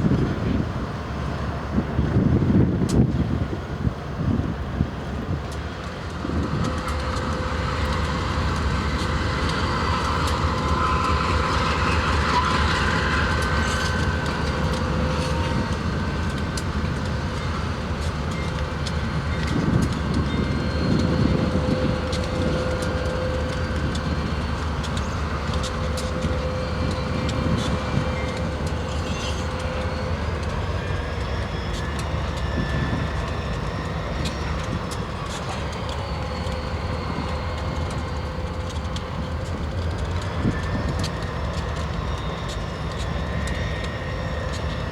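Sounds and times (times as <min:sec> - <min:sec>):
locomotive engine rumble: 0:00.0 - 0:44.9
wheels clicking over rail joints: 0:05.2 - 0:44.9.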